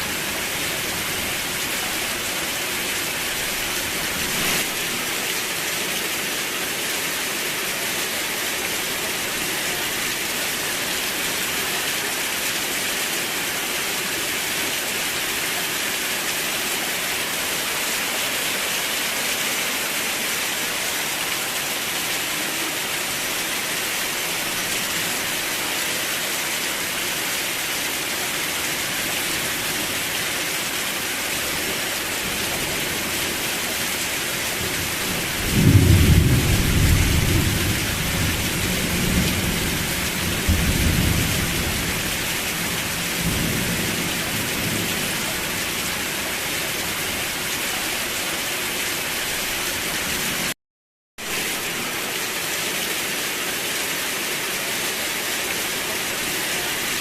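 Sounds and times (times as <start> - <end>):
steady rain hissing: 0.0 - 50.6, 51.2 - 57.0.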